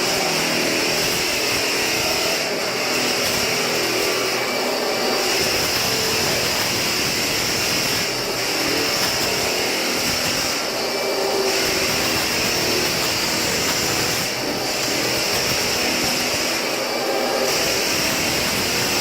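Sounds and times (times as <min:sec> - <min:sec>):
floor sanding machine whirring: 0:00.0 - 0:19.0.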